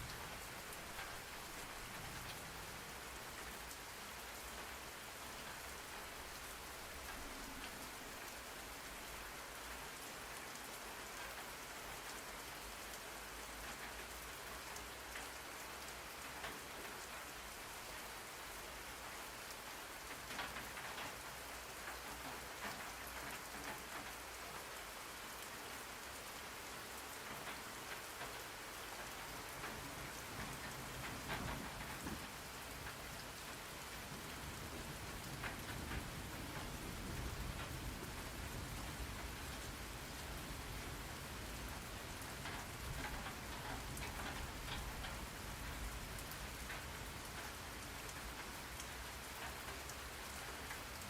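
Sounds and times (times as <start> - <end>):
rain pattering on a surface: 0.0 - 51.0.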